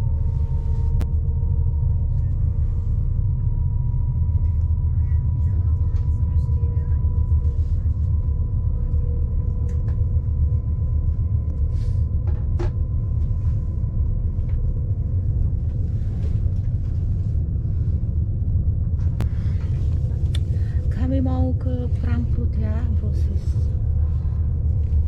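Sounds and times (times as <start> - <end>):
train rumbling at speed: 0.0 - 25.0.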